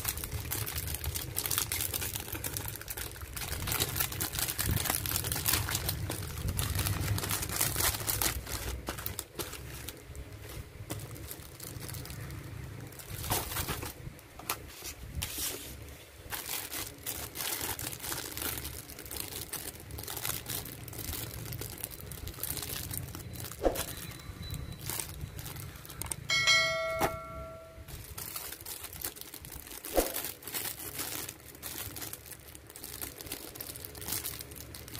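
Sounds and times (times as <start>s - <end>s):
plastic bags crinkling: 0.0s - 14.7s, 16.2s - 34.9s.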